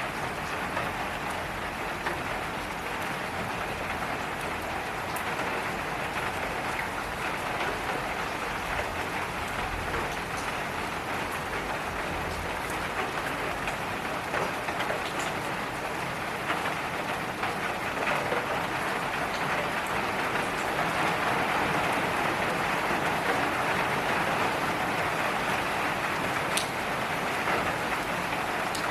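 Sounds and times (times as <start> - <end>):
rain on wet surface: 0.0 - 28.9.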